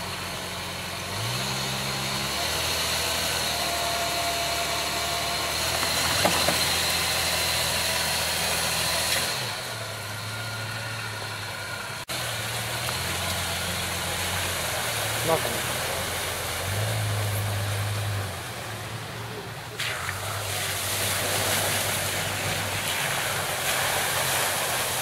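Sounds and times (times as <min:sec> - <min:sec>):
engine running at lower pitch: 0:00.0 - 0:25.0
engines running under load: 0:00.0 - 0:25.0.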